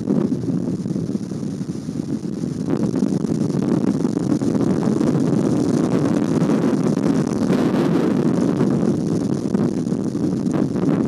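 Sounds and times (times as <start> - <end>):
heavy rain: 0.0 - 11.0
wind: 0.0 - 11.0.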